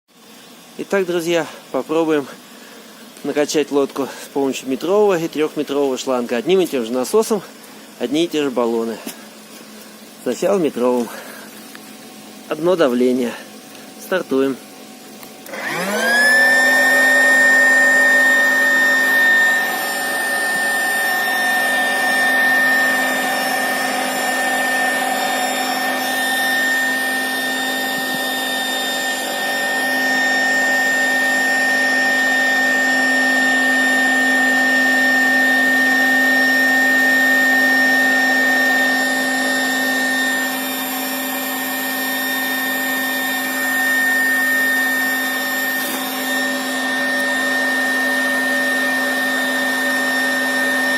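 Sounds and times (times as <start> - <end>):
electric air pump running: 0.2 - 50.9.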